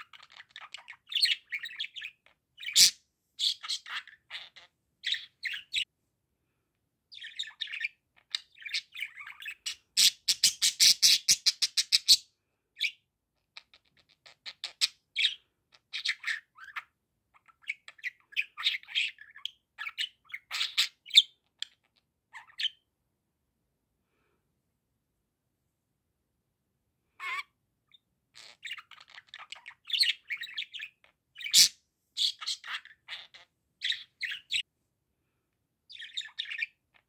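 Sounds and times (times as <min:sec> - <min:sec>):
budgerigar chirping and chattering: 0:00.0 - 0:05.9, 0:07.1 - 0:22.8, 0:27.2 - 0:34.6, 0:35.9 - 0:37.0.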